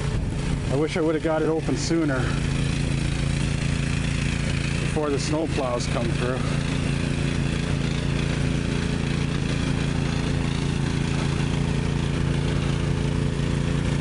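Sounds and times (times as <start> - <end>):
snowblower engine running: 0.0 - 14.0.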